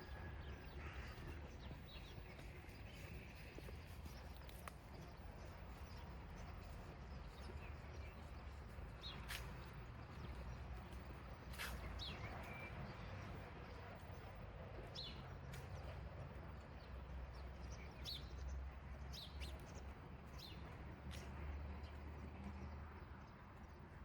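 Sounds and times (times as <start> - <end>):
city rumble: 0.0 - 24.0.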